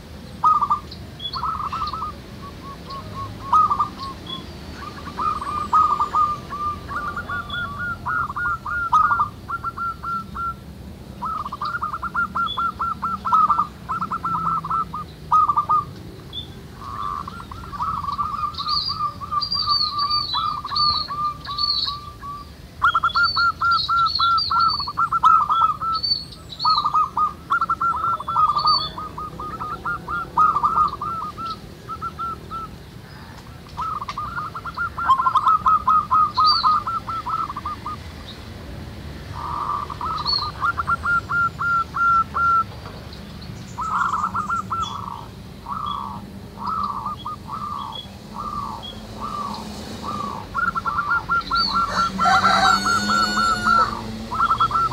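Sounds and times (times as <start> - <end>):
doves cooing: 0.0 - 38.3, 39.2 - 43.0, 43.7 - 54.9
small birds chirping: 0.0 - 54.9.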